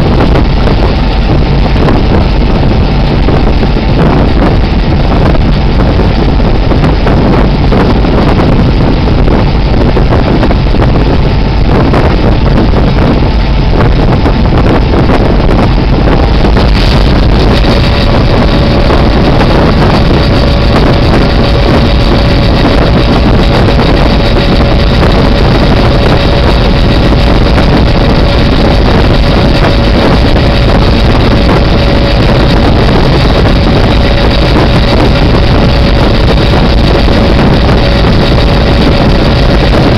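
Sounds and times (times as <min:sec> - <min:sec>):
diesel locomotive engine drone: 0:00.0 - 0:39.9
steady whine: 0:00.0 - 0:39.9
wheel and rail noise: 0:00.0 - 0:39.9
wind buffeting microphone: 0:00.0 - 0:39.9.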